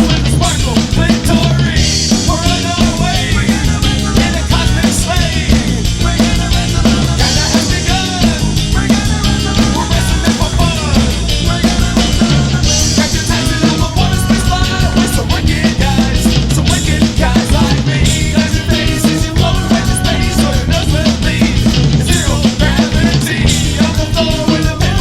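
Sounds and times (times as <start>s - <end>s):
guitars: 0.0s - 25.0s
indie rock band playing: 0.0s - 25.0s
loud drum kit: 0.0s - 25.0s.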